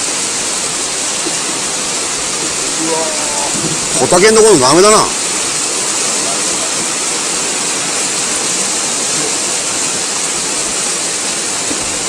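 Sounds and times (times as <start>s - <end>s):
rushing hiss of water: 0.0s - 12.0s.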